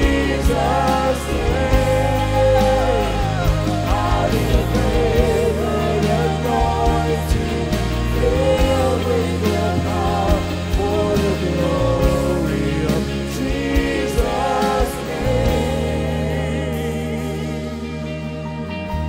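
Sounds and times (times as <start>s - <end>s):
acoustic guitar: 0.0s - 19.0s
keyboard: 0.0s - 19.0s
people singing: 0.0s - 19.0s.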